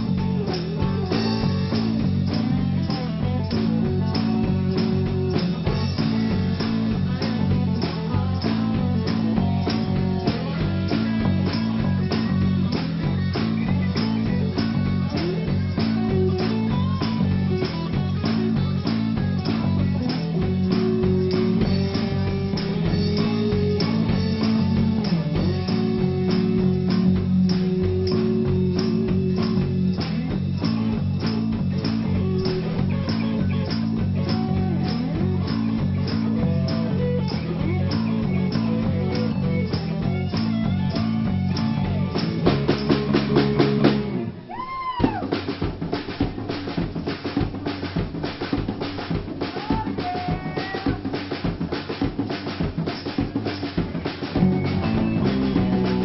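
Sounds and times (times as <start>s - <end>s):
drum kit playing: 0.0s - 56.0s
rock band playing: 0.0s - 56.0s.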